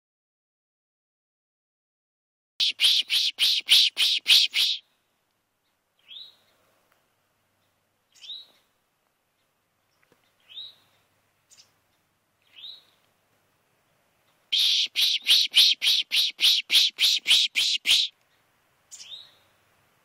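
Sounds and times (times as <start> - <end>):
songbird chirping: 2.6 - 19.7.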